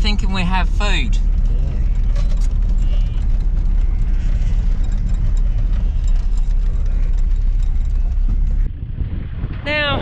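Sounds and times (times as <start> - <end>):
faint rattles: 0.0 - 10.0
vehicle engine rumble: 0.0 - 10.0.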